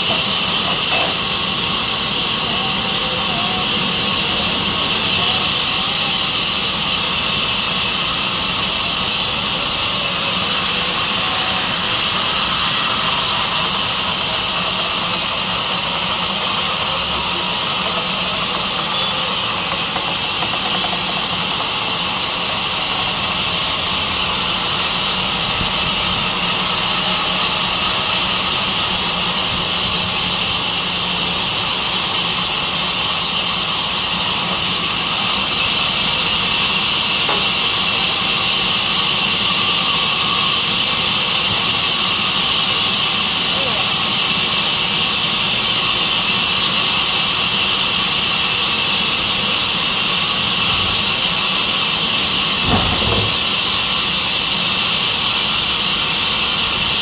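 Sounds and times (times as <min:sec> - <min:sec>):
high-pitched hiss: 0:00.0 - 0:57.0
saw machine running: 0:00.0 - 0:57.0.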